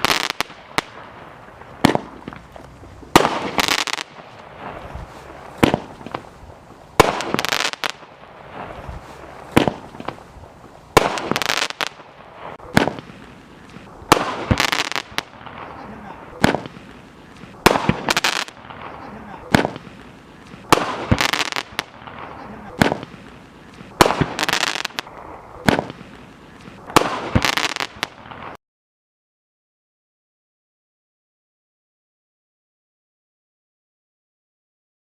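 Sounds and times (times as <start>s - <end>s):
firework bursts: 0.0s - 28.6s.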